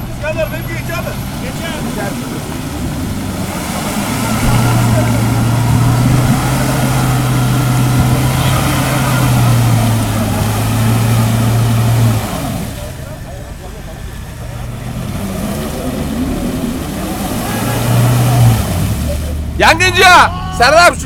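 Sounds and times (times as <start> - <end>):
off-road vehicle engine revving high: 0.0 - 21.0.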